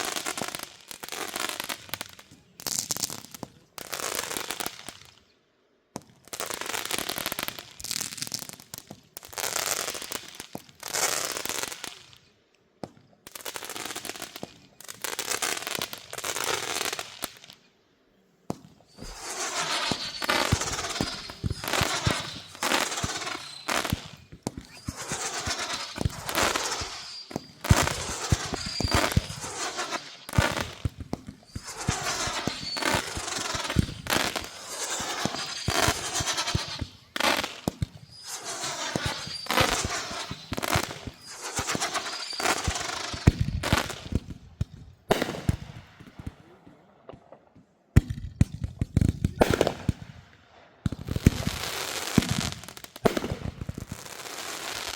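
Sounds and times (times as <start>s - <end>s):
fireworks cracking and banging: 0.0s - 5.2s, 5.9s - 12.2s, 12.8s - 17.7s, 18.5s - 54.9s.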